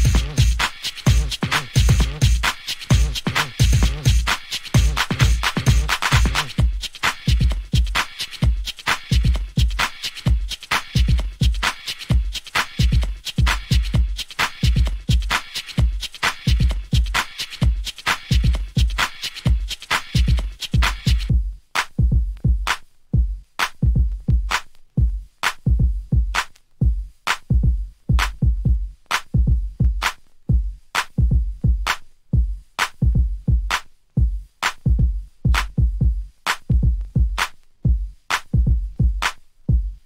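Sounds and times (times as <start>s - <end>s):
drum machine beat: 0.0s - 40.0s.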